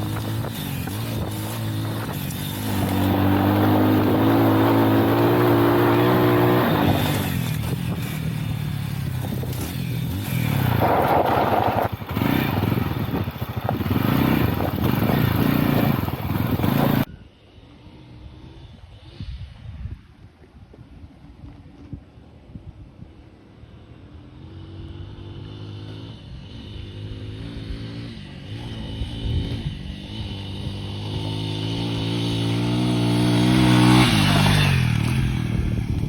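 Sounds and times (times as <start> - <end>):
motorcycle engine revving: 0.0 - 17.1, 23.8 - 36.0.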